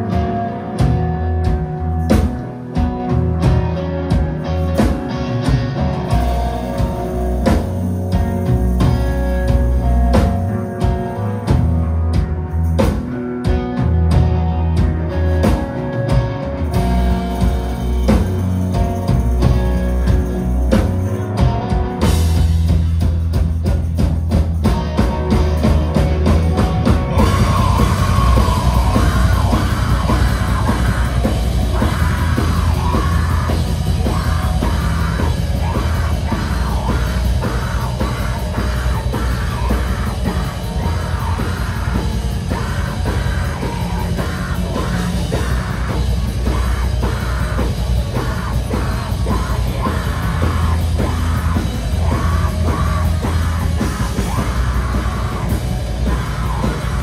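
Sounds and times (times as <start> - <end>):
drums: 0.0 - 57.0
live rock band playing: 0.0 - 57.0.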